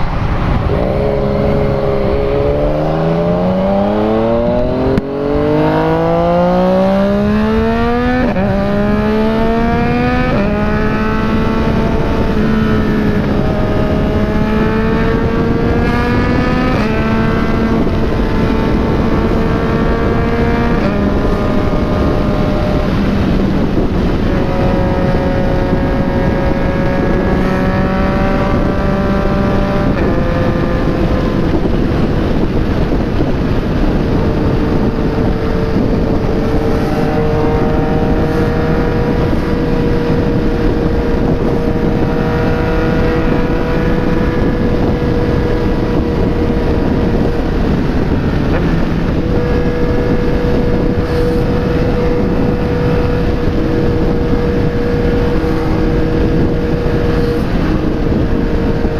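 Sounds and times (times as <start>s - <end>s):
motorcycle engine at high revs: 0.0s - 58.9s
wind rush on microphone: 0.0s - 58.9s.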